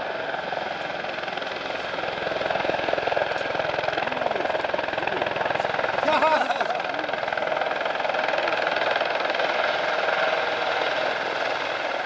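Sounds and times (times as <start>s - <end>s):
helicopter rotors chopping: 0.0s - 12.0s
turbine running steadily: 0.0s - 12.0s.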